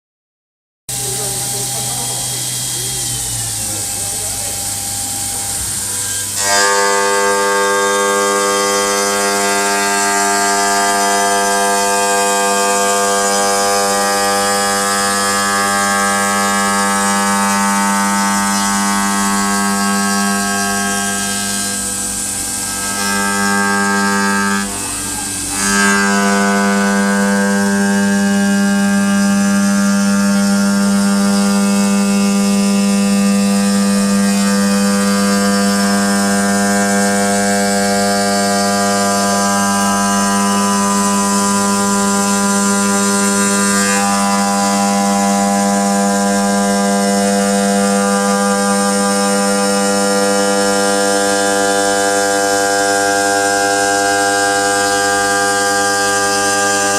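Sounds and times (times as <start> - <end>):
spindle motor whine: 0.9 - 56.9.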